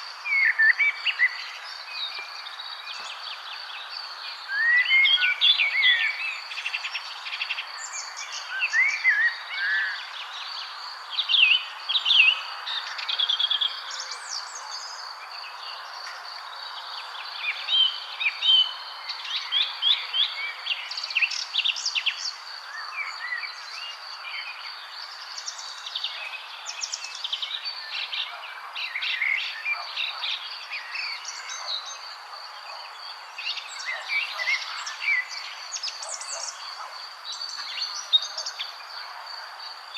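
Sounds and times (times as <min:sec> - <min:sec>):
outdoor background noise: 0:00.0 - 0:39.9
songbirds chirping and singing: 0:00.0 - 0:39.9.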